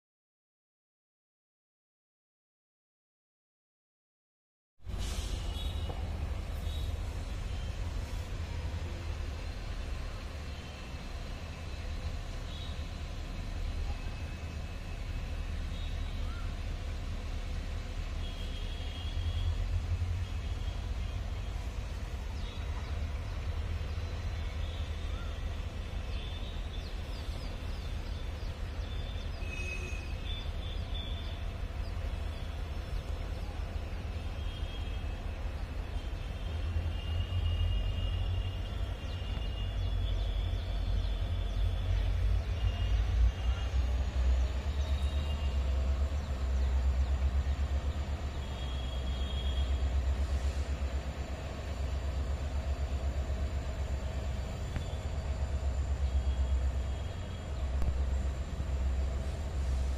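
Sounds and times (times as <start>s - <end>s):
distant freight train rumble: 4.8s - 59.9s.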